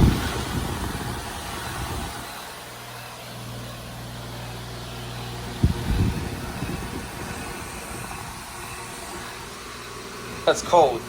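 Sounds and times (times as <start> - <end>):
compressor hum: 0.0 - 11.0
fan whirring: 0.0 - 11.0.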